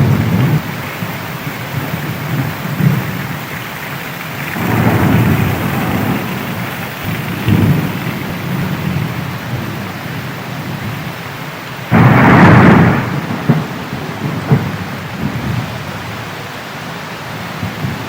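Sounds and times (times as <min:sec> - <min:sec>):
thunder rumbling: 0:00.0 - 0:16.3, 0:17.3 - 0:18.0
heavy rain falling: 0:00.0 - 0:18.0.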